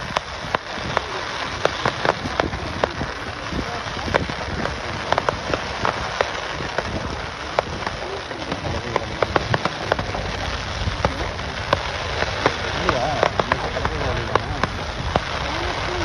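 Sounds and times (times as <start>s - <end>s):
distant fireworks rumble: 0.0s - 16.0s
fireworks hiss: 0.0s - 16.0s
fireworks popping and crackling: 0.0s - 16.0s.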